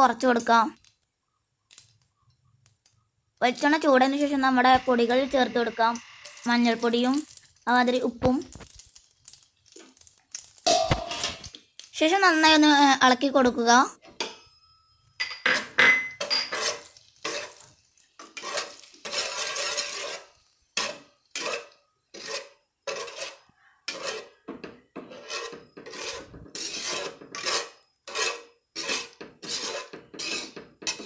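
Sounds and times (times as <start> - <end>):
metal spatula scraping in a pan: 3.4 - 11.6, 14.0 - 31.0.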